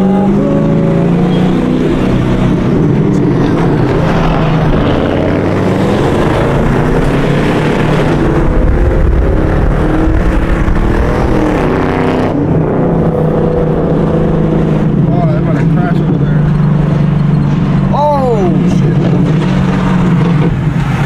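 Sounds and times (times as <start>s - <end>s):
car engines revving in traffic: 0.0s - 21.0s.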